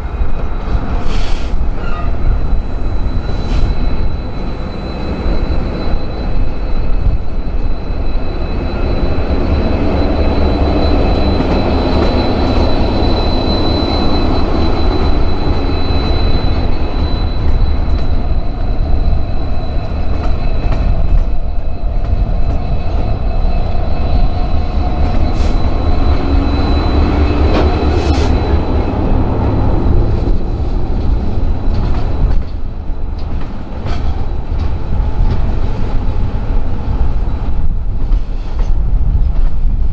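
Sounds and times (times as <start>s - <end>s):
freight train rumbling: 0.0s - 39.9s
wheels squealing on rail: 0.0s - 39.9s.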